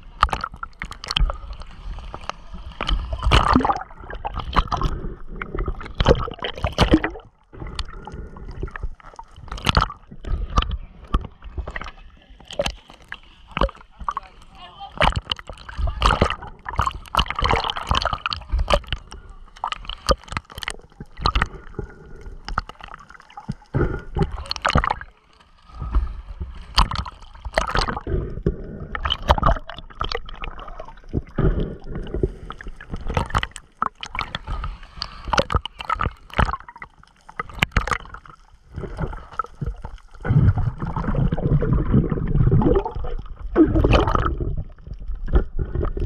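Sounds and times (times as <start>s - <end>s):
water gurgling and bubbling: 0.0s - 46.0s.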